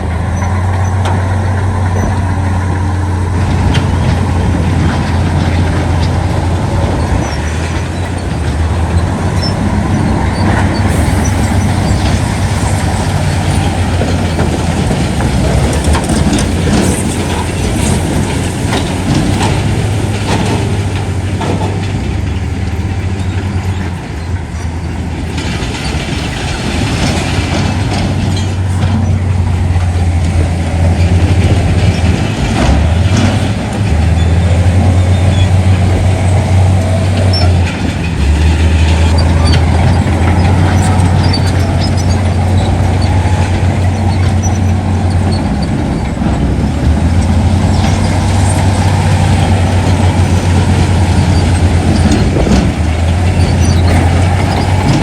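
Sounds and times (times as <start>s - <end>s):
heavy diesel engine drone: 0.0s - 55.0s
metallic clanks and rattles: 0.2s - 55.0s.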